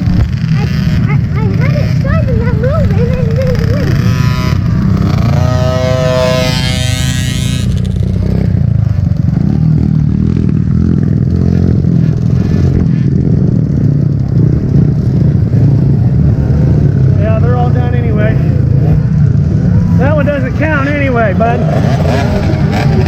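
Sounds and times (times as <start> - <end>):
dirt bike engines rumbling: 0.0 - 23.0
dirt bike passing: 0.0 - 23.0.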